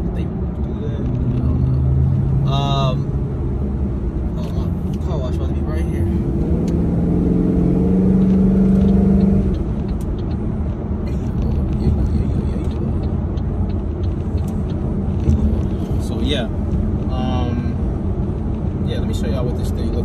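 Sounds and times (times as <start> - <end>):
car engine: 0.0 - 20.0
road rumble: 0.0 - 20.0.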